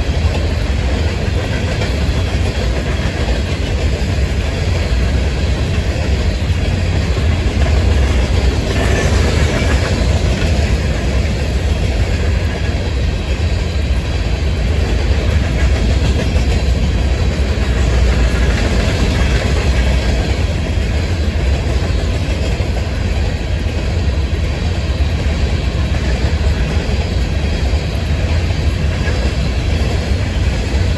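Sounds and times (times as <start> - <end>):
freight train wheels rumbling on rail: 0.0 - 30.9.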